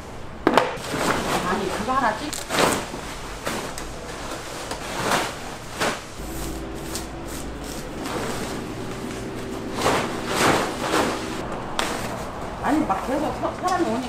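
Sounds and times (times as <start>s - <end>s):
plastic tarpaulin rustling: 0.8s - 14.0s.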